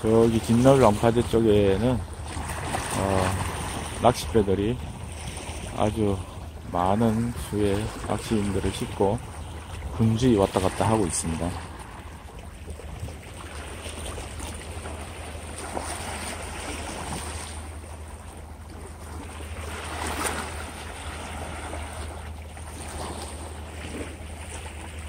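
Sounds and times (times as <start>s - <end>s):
sea waves lapping against rock: 0.0s - 25.0s.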